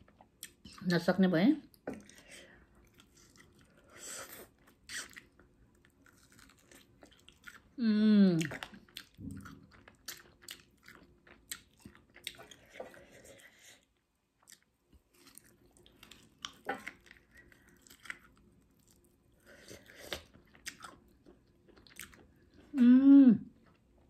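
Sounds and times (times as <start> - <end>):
person chewing: 1.7 - 7.8, 8.4 - 22.8.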